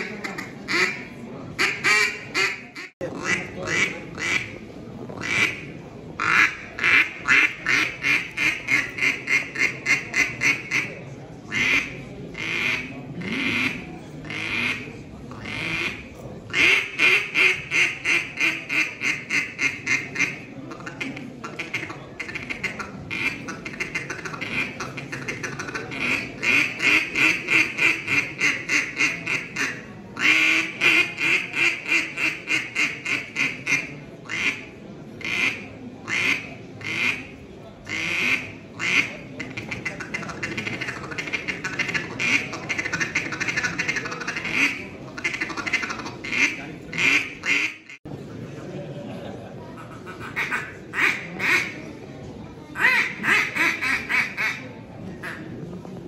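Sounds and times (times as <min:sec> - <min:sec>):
duck call quacks: 0:00.0 - 0:04.5, 0:05.2 - 0:05.6, 0:06.2 - 0:10.9, 0:11.5 - 0:37.3, 0:37.9 - 0:48.0, 0:49.8 - 0:51.8, 0:52.8 - 0:54.6.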